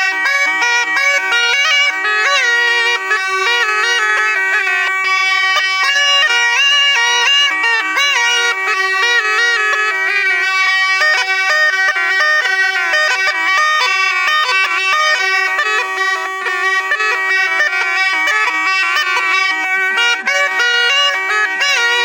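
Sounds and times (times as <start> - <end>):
gourd pipe playing ornamented melody: 0.0 - 22.0.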